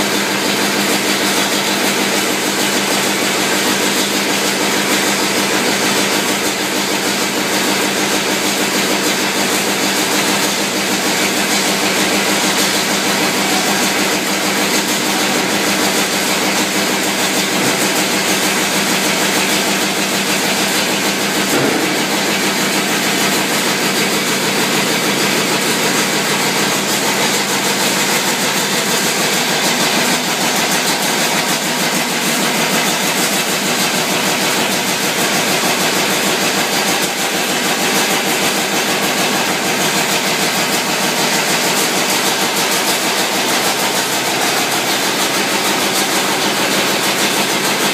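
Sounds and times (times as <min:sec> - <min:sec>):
conveyor machinery running: 0:00.0 - 0:47.9
steady machine hum: 0:00.0 - 0:47.9.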